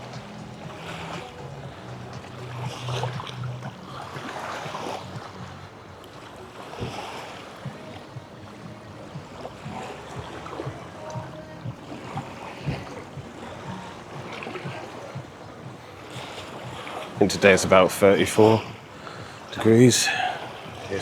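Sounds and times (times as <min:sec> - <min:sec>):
sea waves washing at shore: 0:00.0 - 0:21.0
wind rumbling on microphone: 0:00.0 - 0:21.0.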